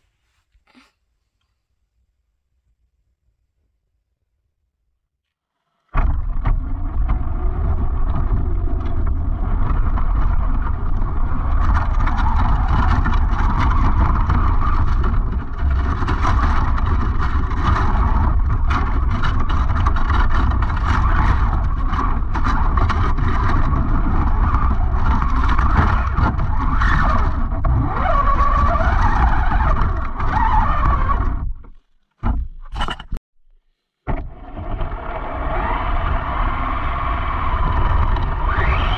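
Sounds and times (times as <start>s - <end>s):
rc truck chassis and tyres rattling: 6.0s - 33.2s, 34.2s - 38.9s.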